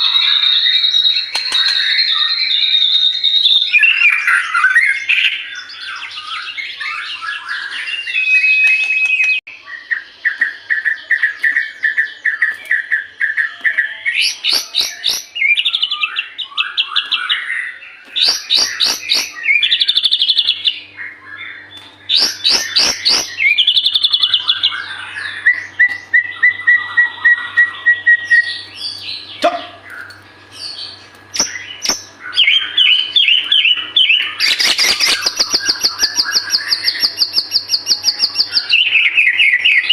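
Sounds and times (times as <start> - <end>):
songbird trills and whistles: 0.0 - 39.9.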